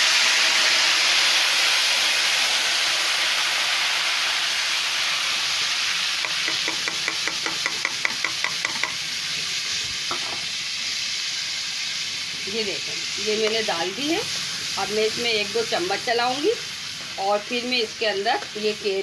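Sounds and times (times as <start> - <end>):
water hissing in hot oil: 0.0 - 19.0.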